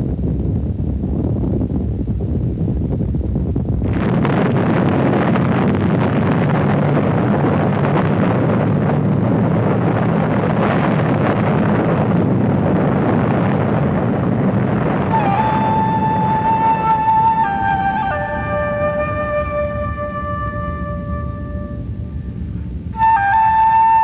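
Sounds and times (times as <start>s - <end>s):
explosion rumbling roar: 3.5s - 23.4s.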